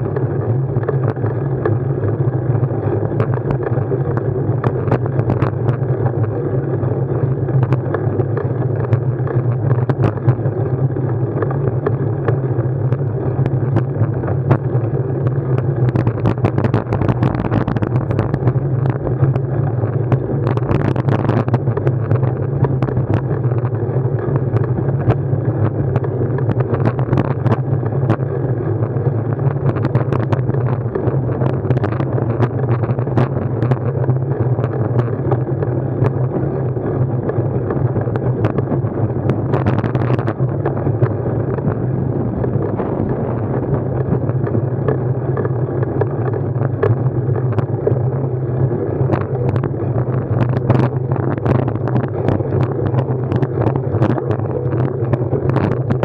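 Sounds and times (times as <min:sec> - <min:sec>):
small rattles and clicks: 0:00.0 - 0:56.0
vehicle ride hum: 0:00.0 - 0:56.0
wind on microphone: 0:00.0 - 0:56.0.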